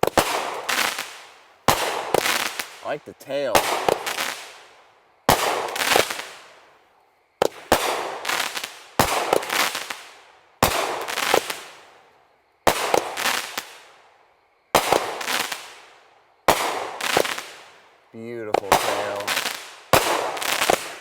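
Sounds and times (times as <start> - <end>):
firework bangs: 0.0 - 4.7, 5.3 - 6.7, 7.4 - 11.9, 12.7 - 13.9, 14.7 - 15.9, 16.5 - 17.8, 18.4 - 21.0.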